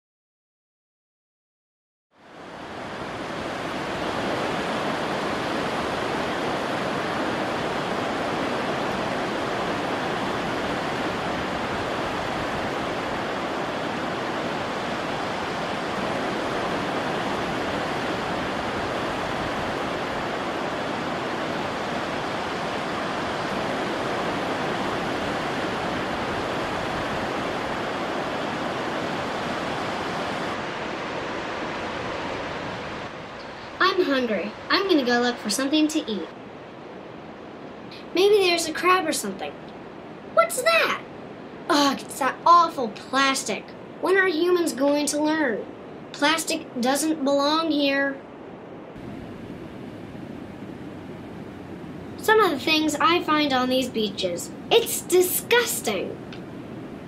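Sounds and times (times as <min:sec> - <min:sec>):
ocean surf roaring: 0:02.2 - 0:57.0.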